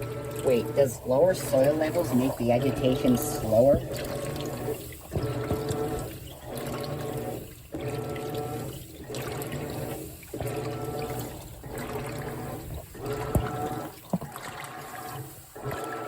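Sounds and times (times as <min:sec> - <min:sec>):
washing machine agitating water: 0:00.0 - 0:16.0.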